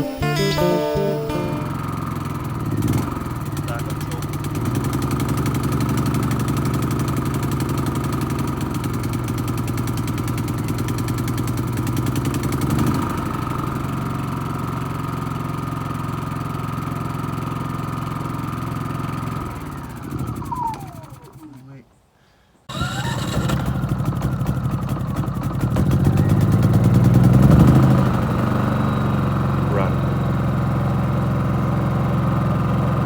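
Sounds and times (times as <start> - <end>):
generator running: 0.0 - 21.8, 22.7 - 33.0.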